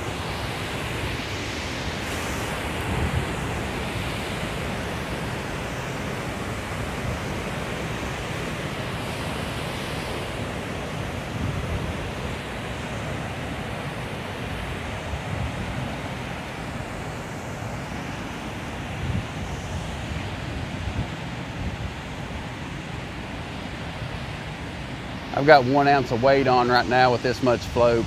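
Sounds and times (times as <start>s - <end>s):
turbulent water rushing: 0.0s - 28.0s
wind buffeting microphone: 0.0s - 28.0s.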